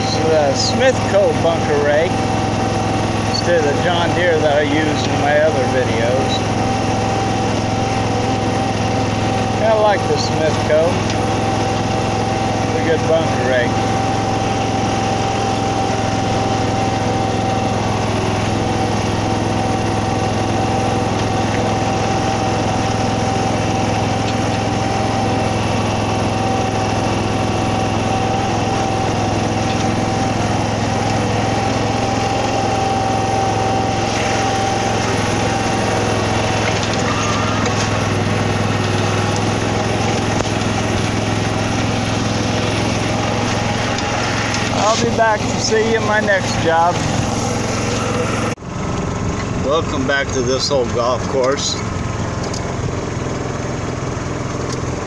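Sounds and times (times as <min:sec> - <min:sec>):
small engine running: 0:00.0 - 0:55.0
steady whine: 0:00.0 - 0:55.0.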